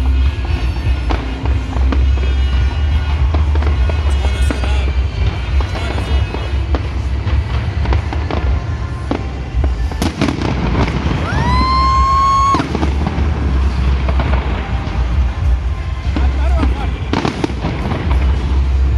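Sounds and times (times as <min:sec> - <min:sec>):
fireworks bangs and crackles: 0:00.0 - 0:18.9
music playing: 0:00.0 - 0:18.9
deep rumble: 0:00.8 - 0:18.9.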